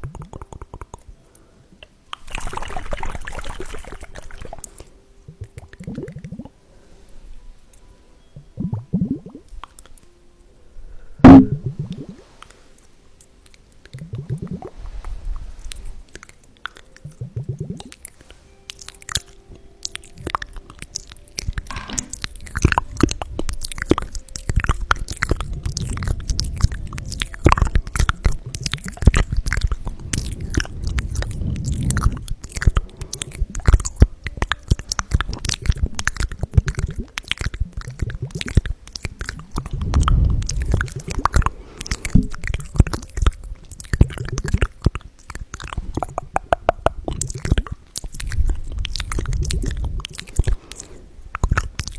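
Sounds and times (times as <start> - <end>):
soft wet squishing: 0.0 - 51.9.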